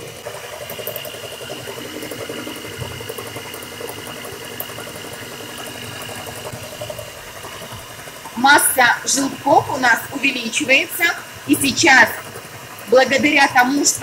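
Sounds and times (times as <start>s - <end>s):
electric hand mixer whine: 0.0s - 14.0s.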